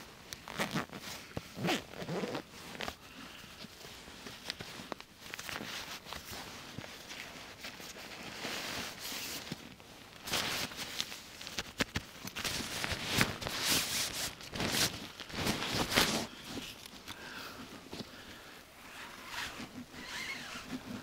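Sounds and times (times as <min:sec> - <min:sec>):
rustling and scuffing of camping gear: 0:00.0 - 0:21.0.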